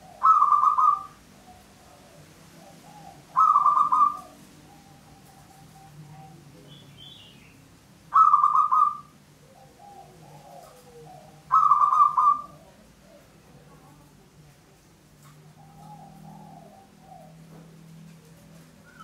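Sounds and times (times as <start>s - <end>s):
dove cooing rolling notes: 0.0s - 6.7s, 8.1s - 14.4s, 15.2s - 19.0s
soft low dove coos: 0.0s - 6.7s, 8.2s - 19.0s.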